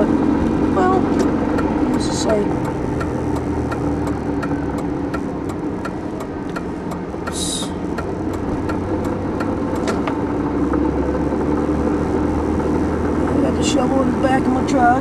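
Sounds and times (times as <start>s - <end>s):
even ticking: 0.0s - 14.9s
truck engine and tyre noise: 0.0s - 15.0s.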